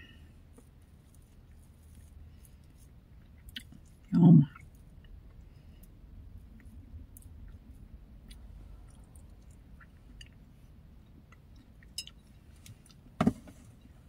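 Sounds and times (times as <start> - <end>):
person chewing: 0.6 - 13.1.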